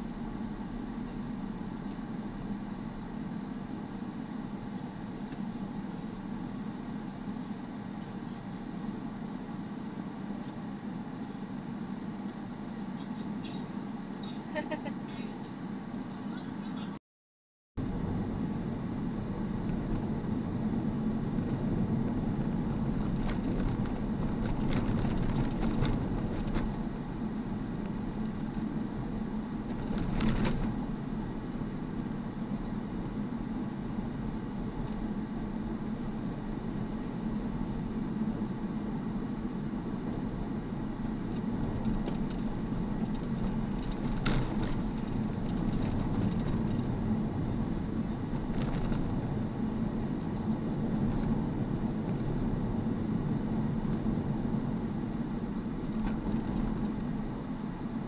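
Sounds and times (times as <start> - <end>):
car engine and road noise: 0.0 - 17.0, 17.8 - 58.0.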